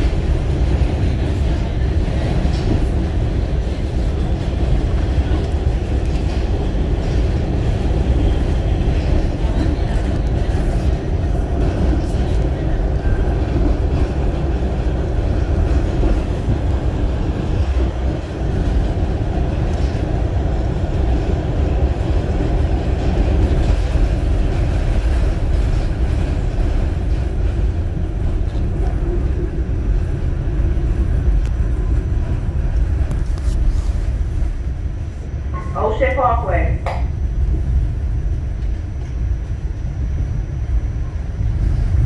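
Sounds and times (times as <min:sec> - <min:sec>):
subway wheels rumbling on rails: 0:00.0 - 0:42.0.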